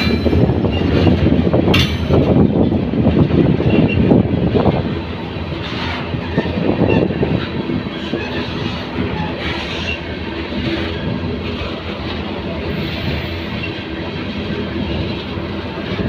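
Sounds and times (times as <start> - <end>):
freight train rolling past: 0.0 - 16.0
wheels clickety-clack on rails: 0.0 - 16.0.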